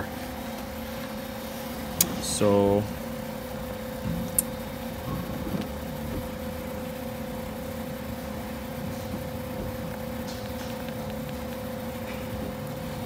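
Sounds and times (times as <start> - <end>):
mechanical hum with whine: 0.0 - 13.0.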